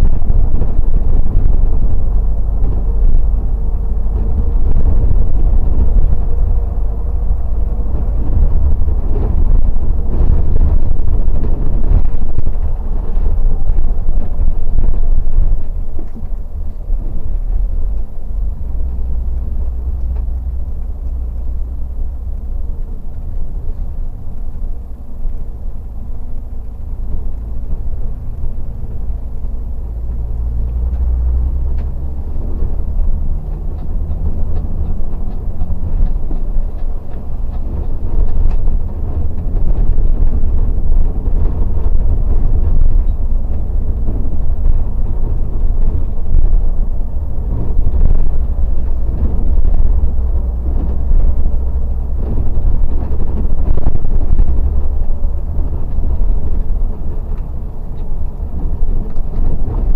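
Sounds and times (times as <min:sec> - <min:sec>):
diesel engine drone: 0:00.0 - 0:59.9
road rumble: 0:00.0 - 0:59.9.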